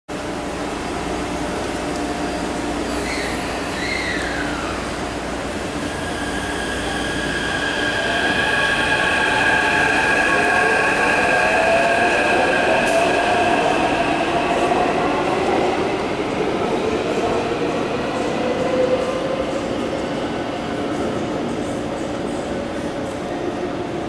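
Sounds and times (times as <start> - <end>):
electric train running hum: 0.1 - 24.0.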